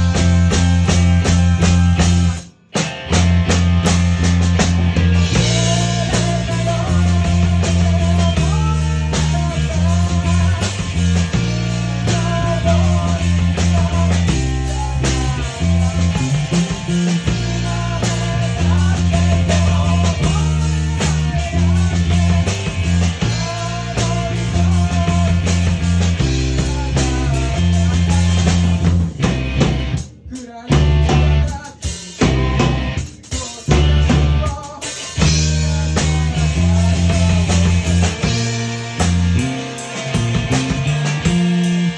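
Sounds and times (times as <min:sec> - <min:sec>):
bass guitar: 0:00.0 - 0:41.9
drum kit: 0:00.0 - 0:41.9
electric guitar: 0:00.0 - 0:41.9.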